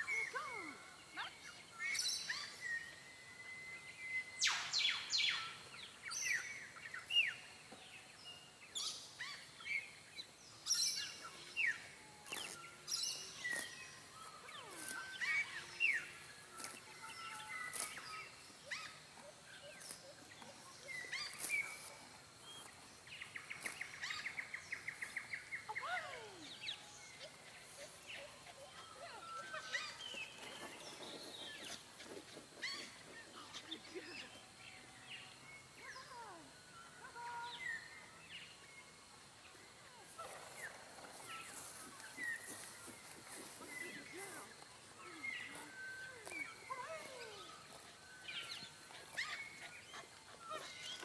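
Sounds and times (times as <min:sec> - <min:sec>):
wild birds calling and singing: 0:00.0 - 0:51.0.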